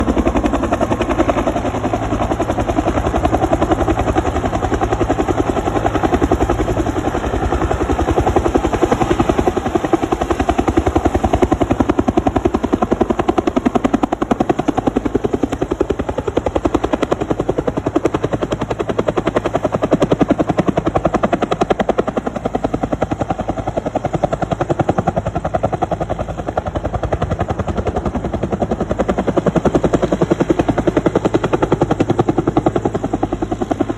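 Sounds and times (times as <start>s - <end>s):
helicopter rotor beating: 0.0s - 33.9s.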